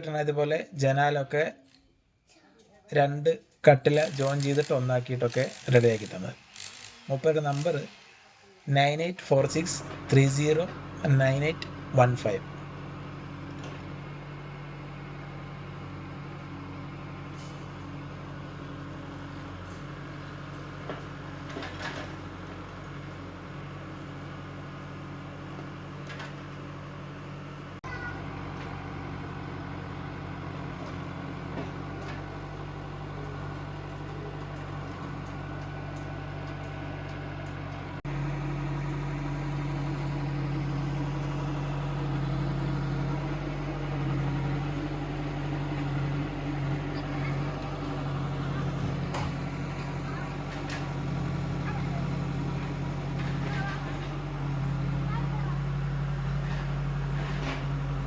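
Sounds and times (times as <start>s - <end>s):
diesel engine running: 3.9s - 58.0s.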